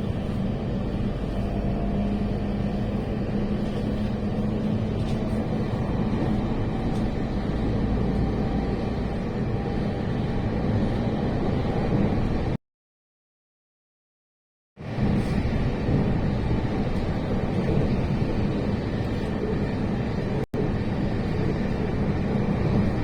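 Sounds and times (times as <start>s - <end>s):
train rumbling inside carriage: 0.0s - 12.6s, 14.8s - 23.0s.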